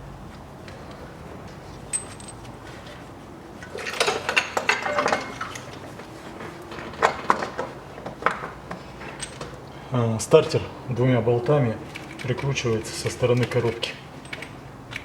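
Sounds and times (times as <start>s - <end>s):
hand tools clinking and rattling: 0.8s - 9.8s, 11.4s - 15.0s.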